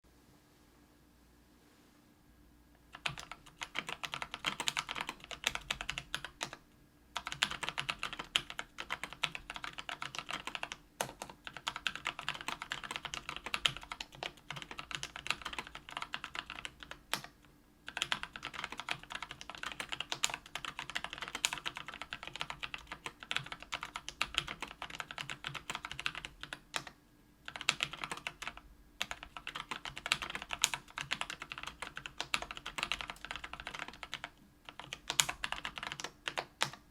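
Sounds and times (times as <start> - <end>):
mechanical keyboard typing: 2.9 - 6.6, 7.2 - 26.9, 27.5 - 36.9.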